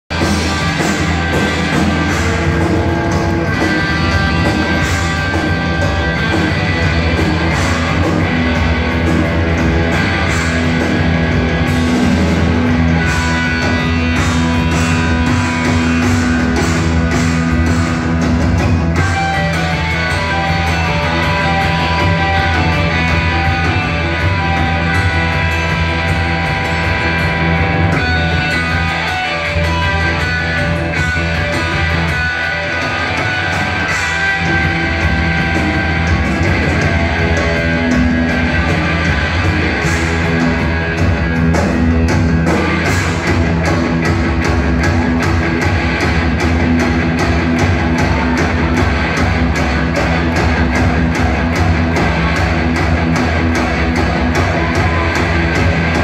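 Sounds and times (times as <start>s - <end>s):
bass guitar: 0.0s - 56.0s
distorted electric guitars: 0.0s - 56.0s
drum kit: 0.1s - 56.0s.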